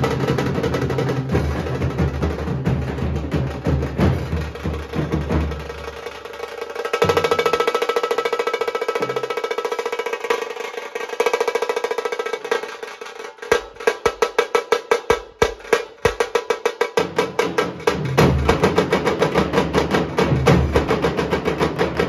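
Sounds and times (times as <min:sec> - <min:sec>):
dhol drums beaten with sticks: 0:00.0 - 0:22.0
tasha drum: 0:00.0 - 0:22.0.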